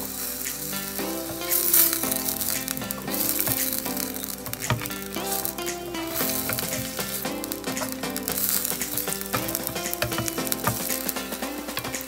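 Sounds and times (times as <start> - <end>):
onions sizzling in hot oil: 0.0 - 12.0
wooden spatula stirring: 0.0 - 12.0.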